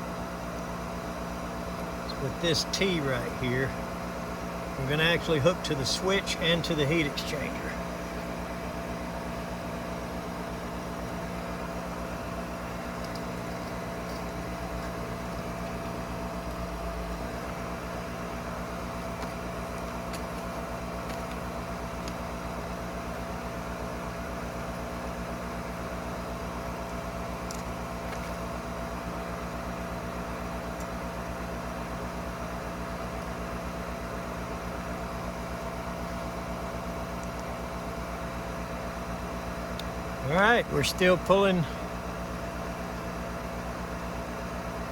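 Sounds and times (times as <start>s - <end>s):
furnace motor humming with whine: 0.0s - 44.9s.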